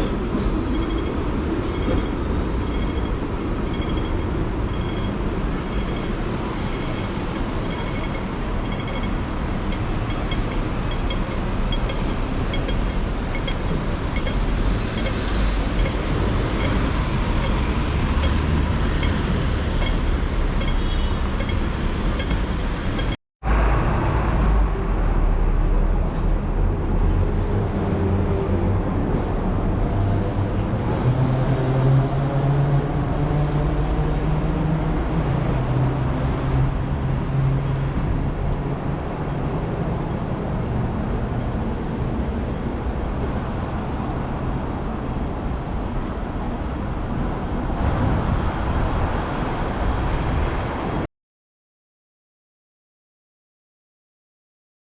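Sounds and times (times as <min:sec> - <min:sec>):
city street traffic: 0:00.0 - 0:51.1.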